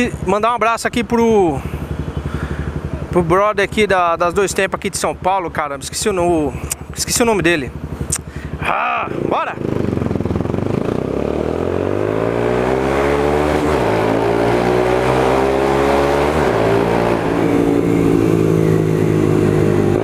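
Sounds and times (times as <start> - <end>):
motorcycle engine accelerating: 1.0 - 20.0.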